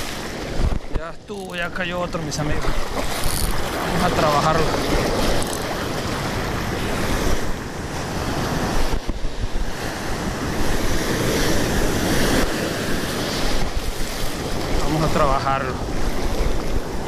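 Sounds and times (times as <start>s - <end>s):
ocean surf washing over shallows: 0.0s - 17.0s
wind blowing on microphone: 0.0s - 17.0s.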